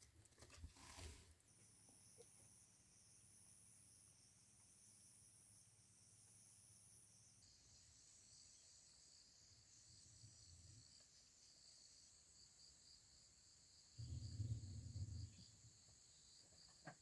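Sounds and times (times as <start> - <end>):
crickets chirring: 0.8 - 17.0.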